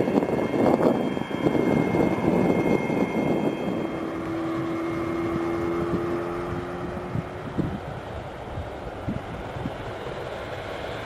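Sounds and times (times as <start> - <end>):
airliner climbing roar: 0.0 - 11.0
jet engines whining: 0.0 - 11.0.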